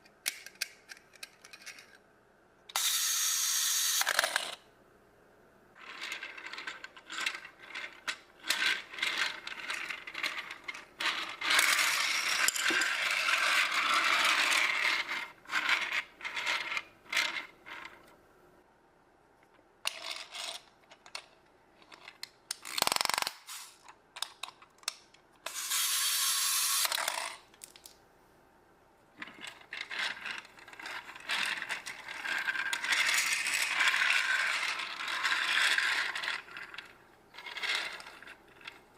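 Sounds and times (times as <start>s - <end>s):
plastic pieces clicking and rattling: 0.2s - 2.0s, 2.7s - 4.6s, 5.8s - 18.1s, 19.8s - 28.0s, 29.2s - 38.9s.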